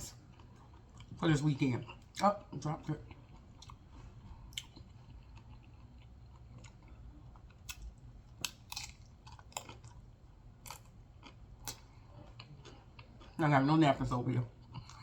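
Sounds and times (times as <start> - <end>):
faint steady hum: 0.0 - 15.0
person chewing crisp chips: 0.0 - 15.0.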